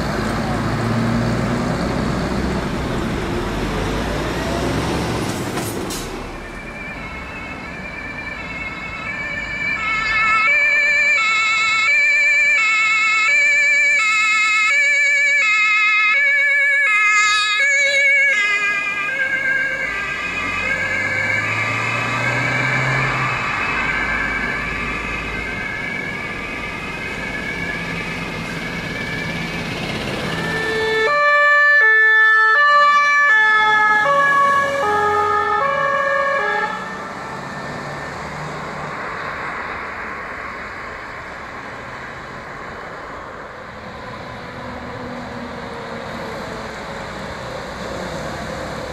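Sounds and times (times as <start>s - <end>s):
vehicle engine: 0.0s - 11.2s, 16.2s - 48.9s
two-tone emergency sirens: 6.1s - 48.9s.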